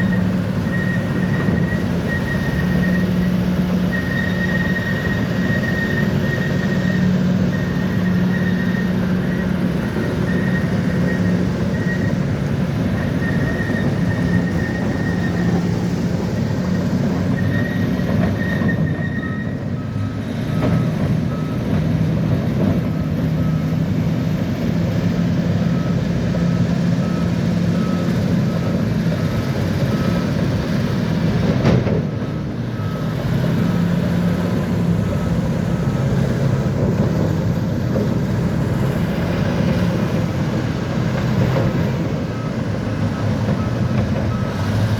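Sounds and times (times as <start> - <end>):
bulldozer diesel engine: 0.0 - 44.9
reversing alarm beeping: 0.0 - 44.9.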